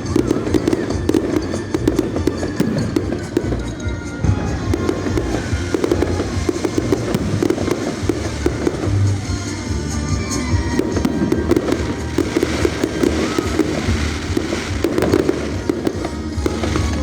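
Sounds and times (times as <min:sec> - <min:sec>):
fireworks bangs and crackling: 0:00.0 - 0:17.0
music playing: 0:00.0 - 0:17.0.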